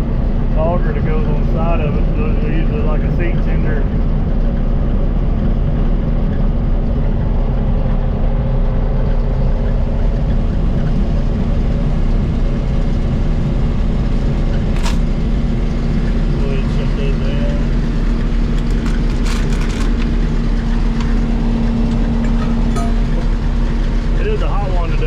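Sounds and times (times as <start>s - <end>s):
machinery engine humming: 0.0s - 25.0s.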